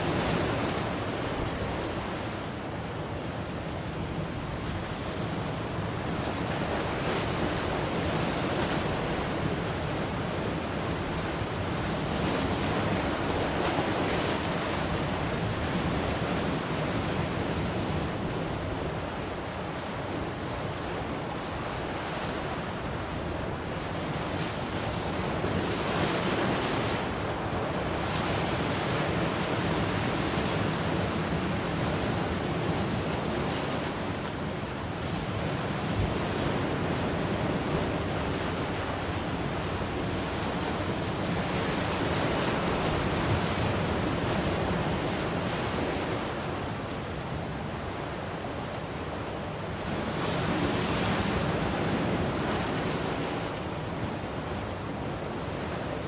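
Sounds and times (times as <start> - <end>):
ocean waves breaking: 6.1 - 56.0.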